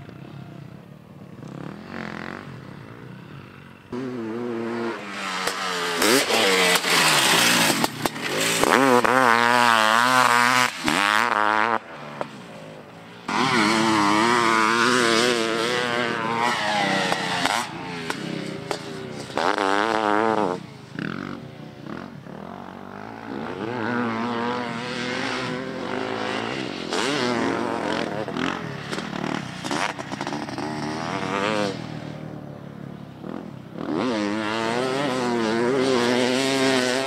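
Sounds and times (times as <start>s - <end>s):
dirt bike engine revving: 1.2s - 37.0s.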